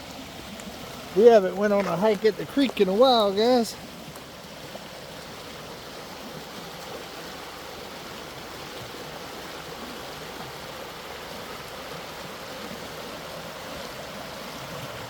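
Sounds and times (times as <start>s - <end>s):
creek running over rocks: 0.0s - 15.0s.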